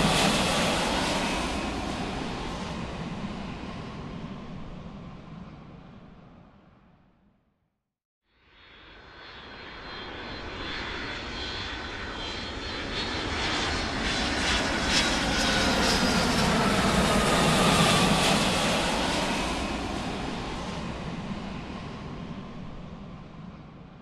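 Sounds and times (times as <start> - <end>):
airplane flying past: 0.0 - 6.3, 8.6 - 24.0.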